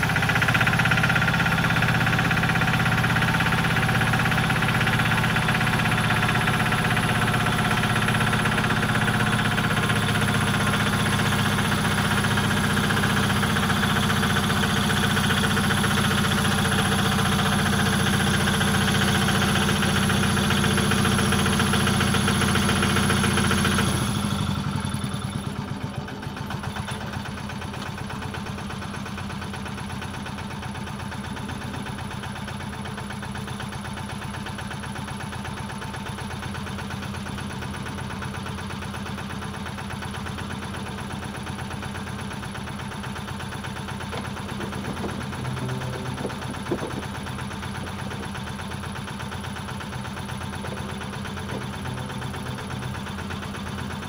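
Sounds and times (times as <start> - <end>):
walking tractor engine running: 0.0 - 54.0.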